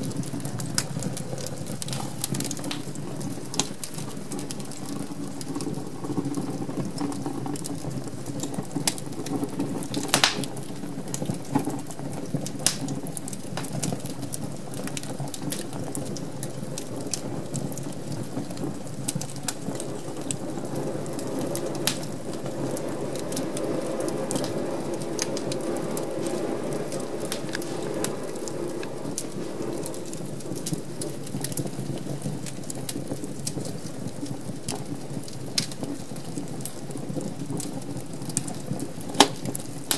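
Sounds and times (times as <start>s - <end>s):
low rush of flames: 0.0s - 39.9s
wood fire pops and snaps: 0.0s - 39.9s.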